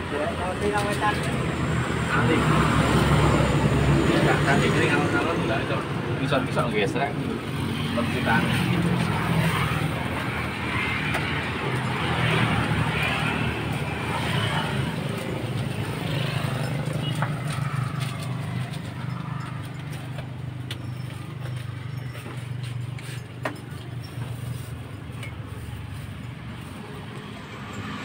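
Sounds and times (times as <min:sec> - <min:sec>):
motorbikes passing: 0:00.0 - 0:28.0.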